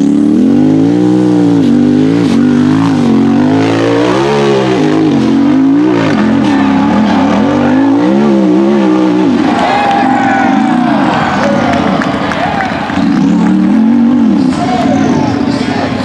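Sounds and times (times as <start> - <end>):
buggy engine revving hard: 0.0 - 16.0.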